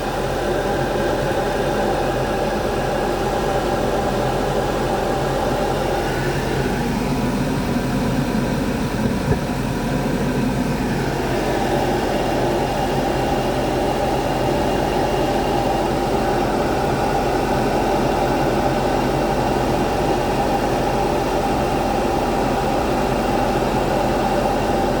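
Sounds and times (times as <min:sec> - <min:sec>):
car engine idling with misfire: 0:00.0 - 0:25.0.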